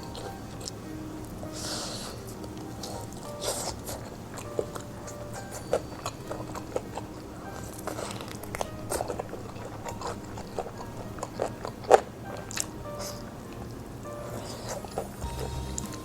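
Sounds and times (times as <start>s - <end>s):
crunchy food chewing: 1.4s - 16.0s.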